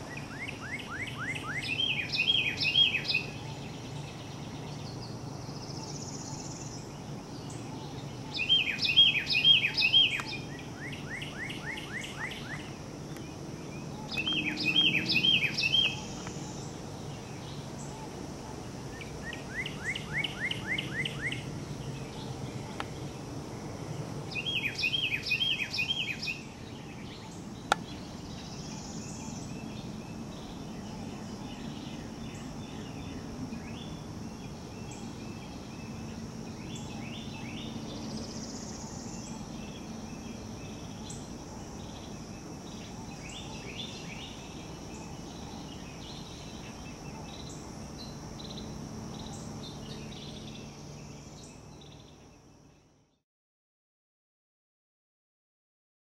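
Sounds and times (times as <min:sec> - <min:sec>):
high insect drone: 0:00.0 - 0:53.1
birds chirping: 0:00.0 - 0:53.2.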